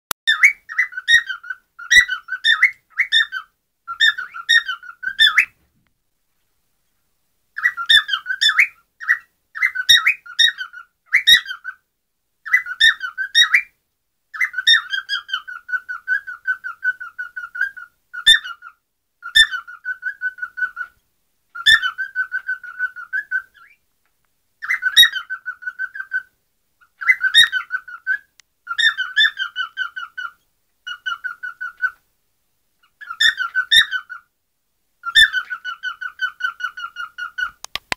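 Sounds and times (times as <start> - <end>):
parrots chattering and whistling: 0.3 - 5.6, 7.6 - 11.8, 12.4 - 13.7, 14.4 - 23.8, 24.6 - 32.0, 32.8 - 34.3, 35.0 - 37.6.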